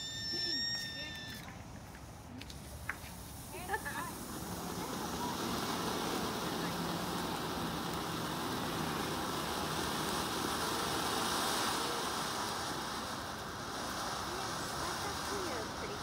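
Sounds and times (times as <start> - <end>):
fountain firework hissing: 0.0 - 16.0.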